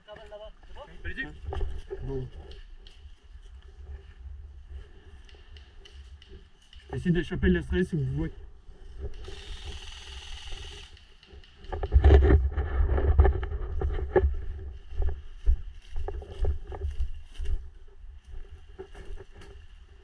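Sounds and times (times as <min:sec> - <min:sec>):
rumble and rustling on microphone: 0:00.0 - 0:20.0.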